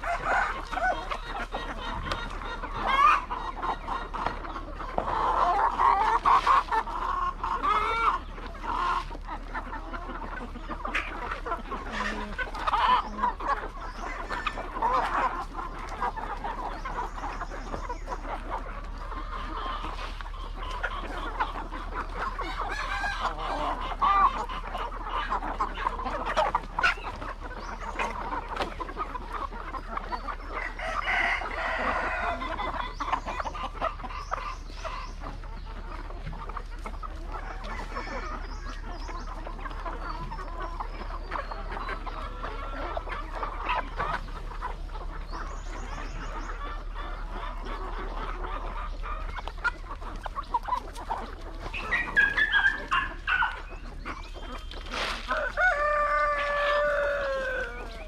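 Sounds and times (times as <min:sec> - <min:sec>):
hens clucking and calling: 0:00.0 - 0:58.0.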